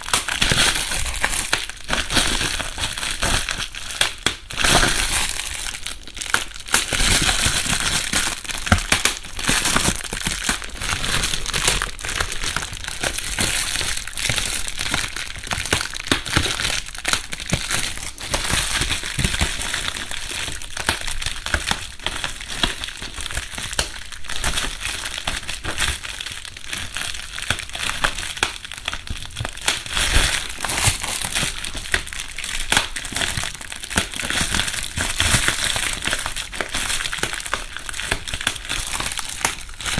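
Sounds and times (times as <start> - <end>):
bubble wrap crumpling and popping: 0.0 - 39.9.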